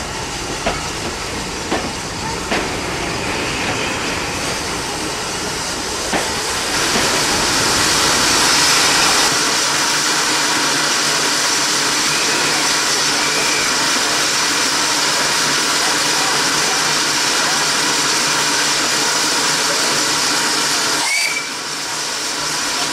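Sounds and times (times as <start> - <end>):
rumble of rolling coaches: 0.0 - 22.9
steam hissing: 0.0 - 22.9.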